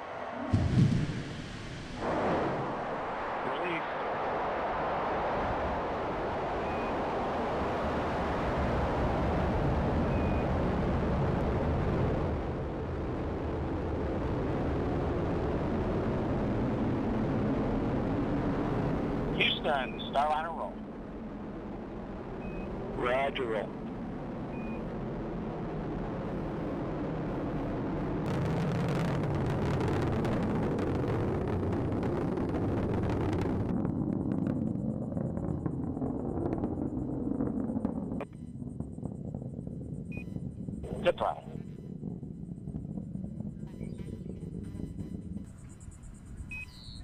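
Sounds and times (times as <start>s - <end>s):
rocket engines rumbling: 0.0s - 47.0s.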